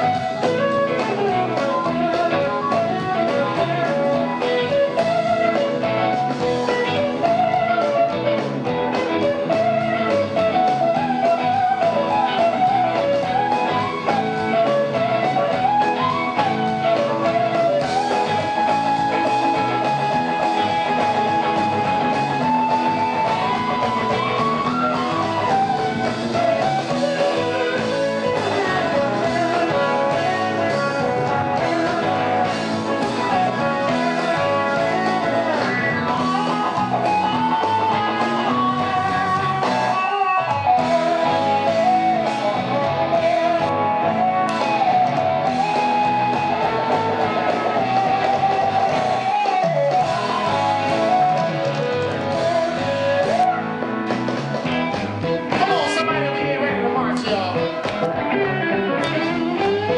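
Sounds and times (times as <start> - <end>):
electric guitar: 0.0 - 59.9
pedal steel guitar: 0.0 - 59.9.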